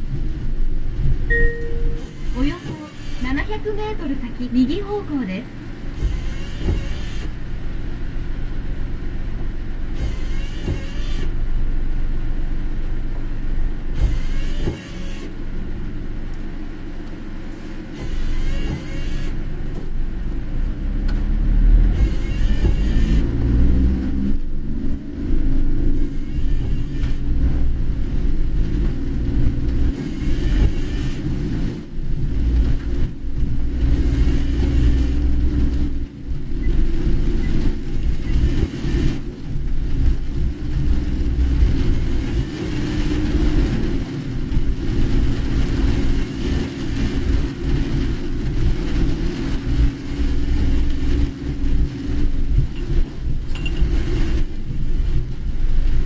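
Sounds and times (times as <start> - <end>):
engine and tyre rumble: 0.0 - 56.0
wet road hiss: 1.9 - 56.0.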